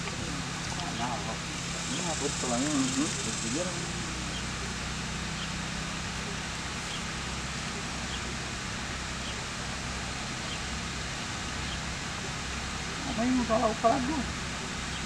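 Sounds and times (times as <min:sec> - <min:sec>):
even hiss: 0:00.0 - 0:15.0
low hum: 0:00.0 - 0:15.0.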